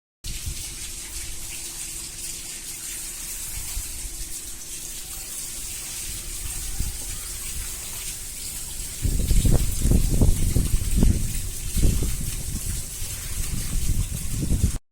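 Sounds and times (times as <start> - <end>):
rain hissing: 0.3 - 14.8.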